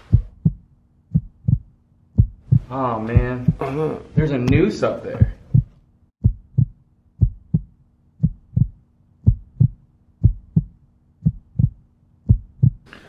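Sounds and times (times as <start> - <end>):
heartbeat thumps: 0.0 - 12.9.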